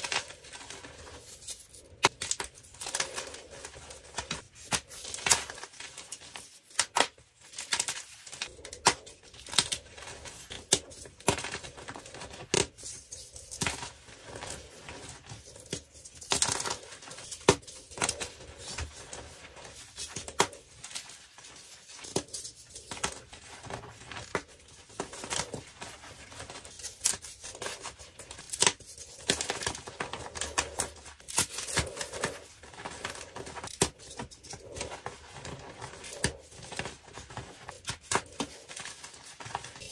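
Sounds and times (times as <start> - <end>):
chalk blocks crunching: 0.0 - 39.9.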